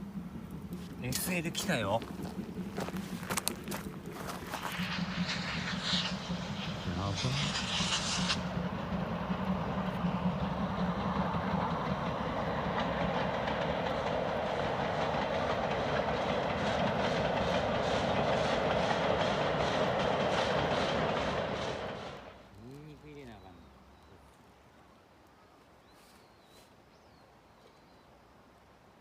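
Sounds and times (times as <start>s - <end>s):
train wheels rumbling on rail: 0.0s - 23.6s.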